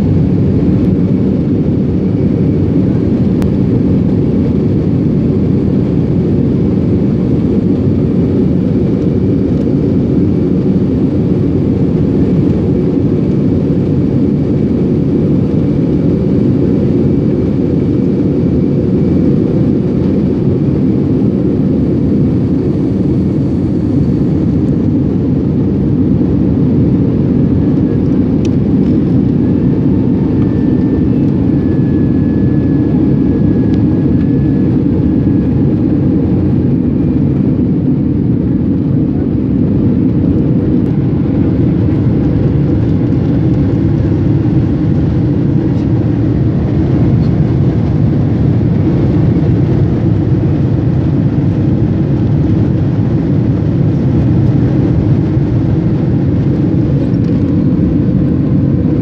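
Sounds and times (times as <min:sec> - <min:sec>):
faint steady whine: 0:00.0 - 0:59.0
jet engines roaring: 0:00.0 - 0:59.0.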